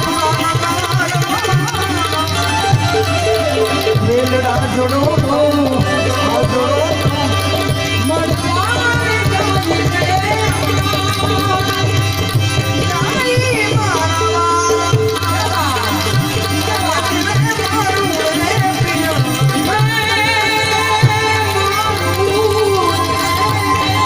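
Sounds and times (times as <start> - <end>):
sliding melody instrument: 0.0 - 24.0
tabla playing fast strokes: 0.0 - 24.0.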